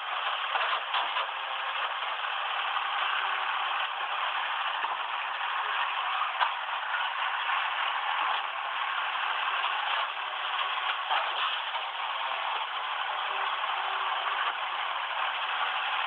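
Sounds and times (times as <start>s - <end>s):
garbage truck engine and hydraulics: 0.0s - 16.0s.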